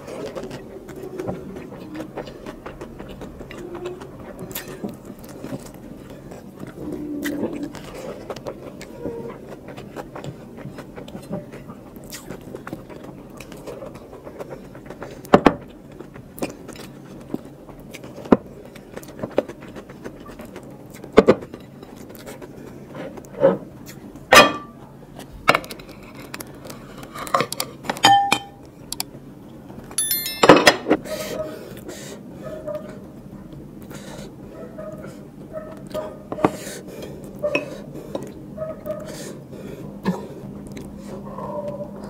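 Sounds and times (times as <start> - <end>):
chewing rice: 0.0 - 24.3, 24.9 - 28.0, 31.6 - 42.0.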